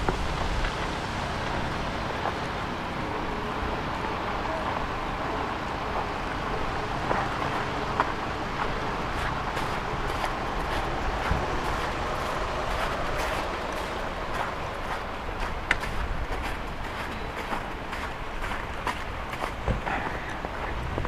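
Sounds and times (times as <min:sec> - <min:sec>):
low urban background rumble: 0:00.0 - 0:21.0.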